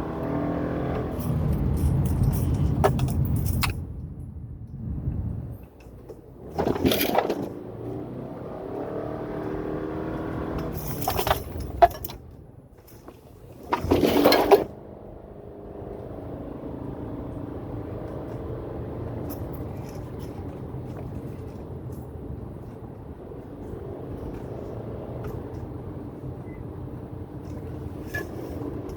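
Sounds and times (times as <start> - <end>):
car engine droning: 0.0 - 28.9.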